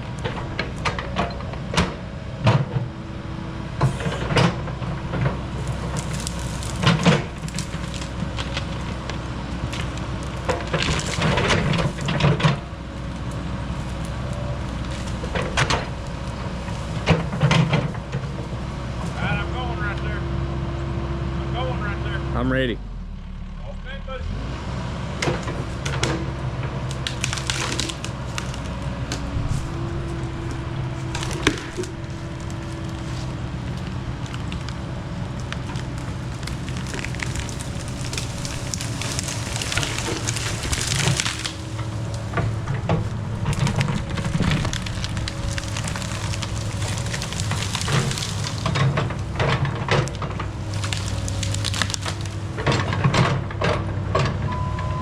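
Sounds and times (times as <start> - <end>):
wood crackling and snapping: 0.0 - 19.4, 25.2 - 53.9
band sawmill engine hum: 0.0 - 55.0.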